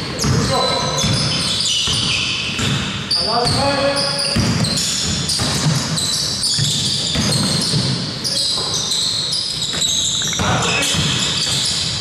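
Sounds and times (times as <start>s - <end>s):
basketball bouncing on floor: 0.1s - 8.0s, 9.6s - 12.0s.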